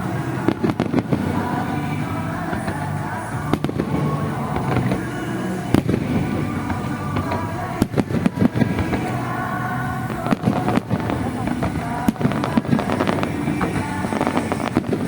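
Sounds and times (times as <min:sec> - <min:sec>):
fireworks bangs: 0:00.0 - 0:15.0
music: 0:00.0 - 0:15.0.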